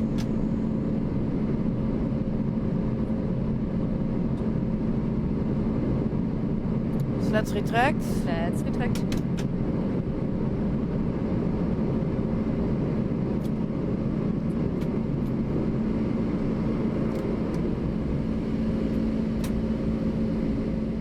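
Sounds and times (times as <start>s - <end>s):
airflow and engine noise: 0.0s - 21.0s
steady low hum: 0.0s - 21.0s.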